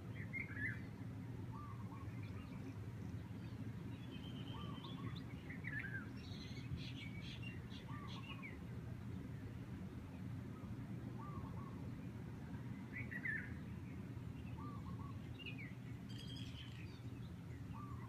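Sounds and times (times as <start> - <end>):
birds chirping: 0.1 - 18.0.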